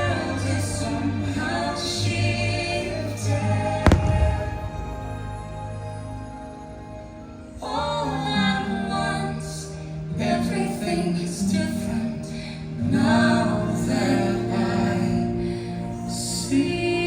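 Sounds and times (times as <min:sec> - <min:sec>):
woman singing with music: 0:00.0 - 0:17.0.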